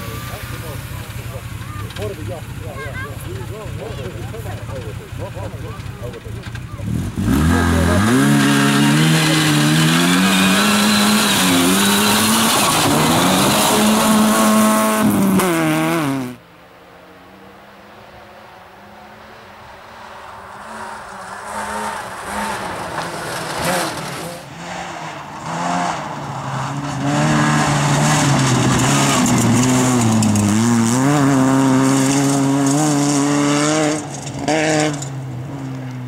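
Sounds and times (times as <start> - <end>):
rally car engine at full throttle: 0.0 - 36.0.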